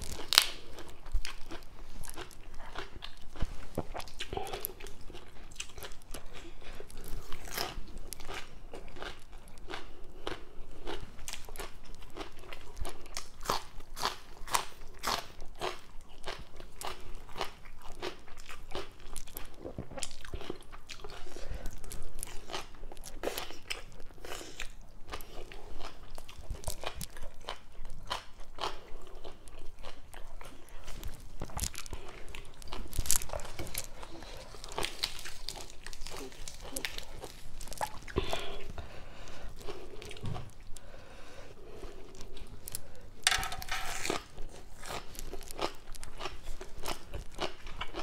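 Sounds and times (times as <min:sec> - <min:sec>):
person chewing crunchy food: 0:00.0 - 0:48.0.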